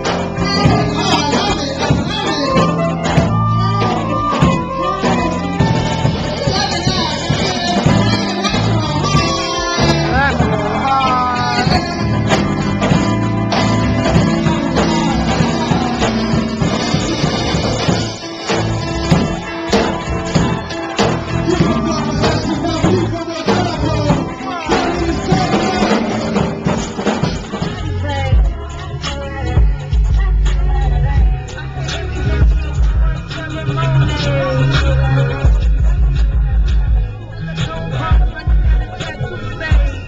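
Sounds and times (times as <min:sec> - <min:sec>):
heavy deep bass: 0:00.0 - 0:40.0
live band playing: 0:00.0 - 0:40.0
person singing: 0:00.0 - 0:40.0.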